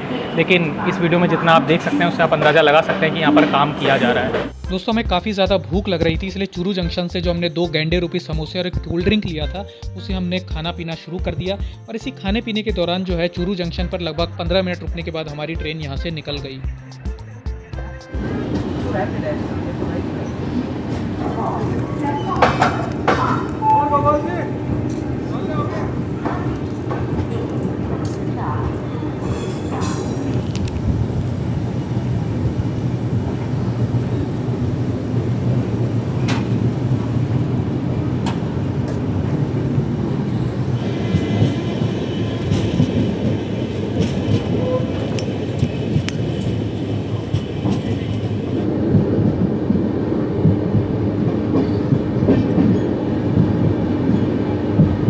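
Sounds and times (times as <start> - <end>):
train coaches rumbling: 0.0 - 55.0.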